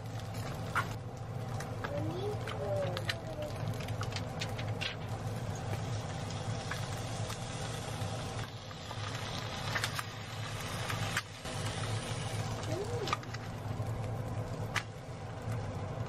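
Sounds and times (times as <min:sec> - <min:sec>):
egg sizzling in oil: 0:00.0 - 0:16.0.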